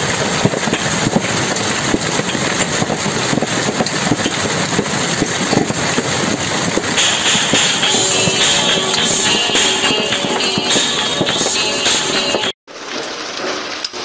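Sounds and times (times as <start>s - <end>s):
hail and rain pelting awning: 0.0s - 14.0s.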